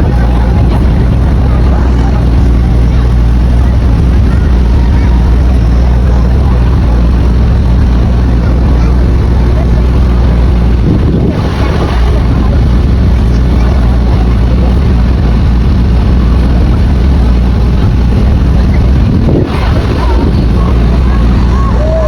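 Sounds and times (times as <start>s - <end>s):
fireworks barrage rumbling: 0.0s - 22.0s.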